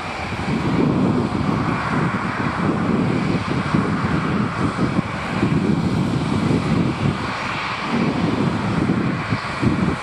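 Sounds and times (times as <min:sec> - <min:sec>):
jet engines running: 0:00.0 - 0:10.0
wind rumbling on microphone: 0:00.0 - 0:10.0.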